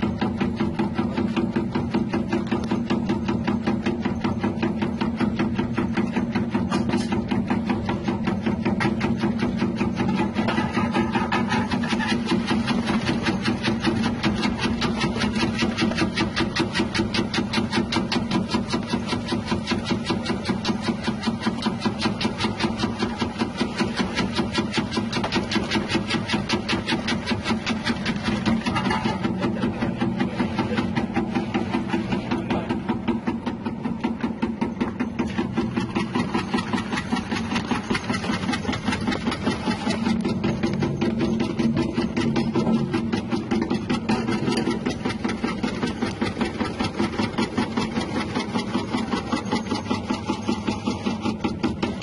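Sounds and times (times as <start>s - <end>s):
motor hum: 0.0s - 52.0s
slicing machine clatter: 0.0s - 52.0s.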